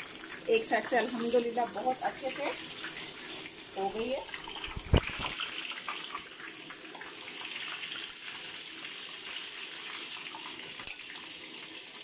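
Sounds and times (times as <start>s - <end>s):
oil sizzling in pan: 0.0s - 12.0s.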